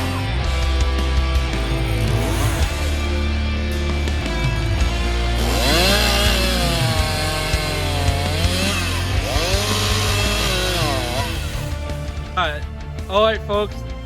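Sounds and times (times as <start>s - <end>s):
chainsaw cutting tree: 0.0s - 12.4s
rock music: 0.0s - 14.0s.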